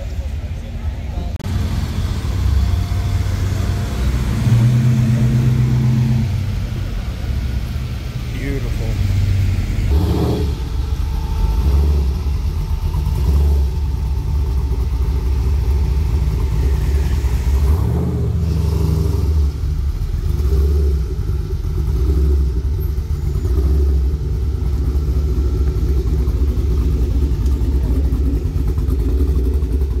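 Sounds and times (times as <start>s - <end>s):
car engine rumbling: 0.0s - 30.0s.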